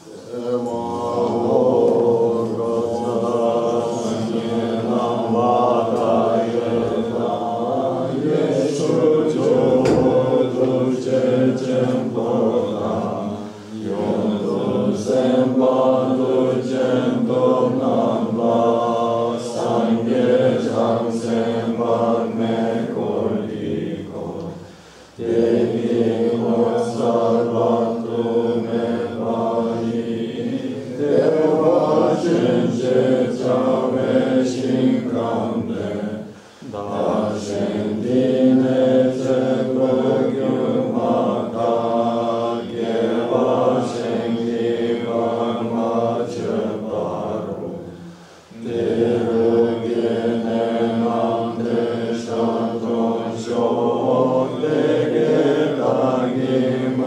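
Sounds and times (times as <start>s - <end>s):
voices chanting a prayer: 0.0s - 57.0s.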